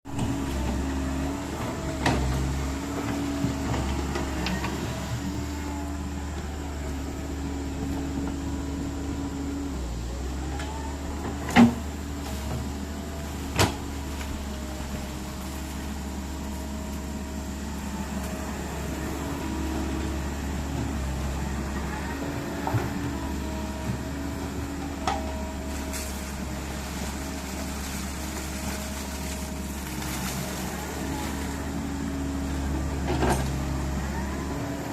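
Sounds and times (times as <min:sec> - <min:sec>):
excavator engine and hydraulic whine: 0:00.1 - 0:34.9.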